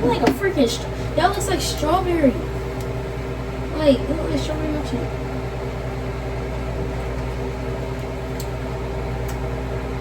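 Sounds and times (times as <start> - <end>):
kitchen appliance humming: 0.0 - 10.0.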